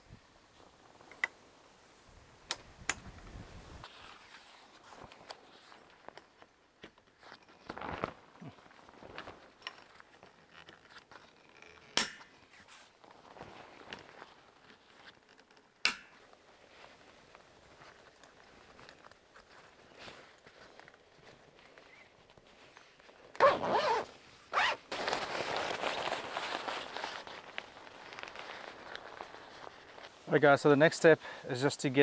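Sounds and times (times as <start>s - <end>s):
canvas fabric rustling: 3.1s - 32.0s.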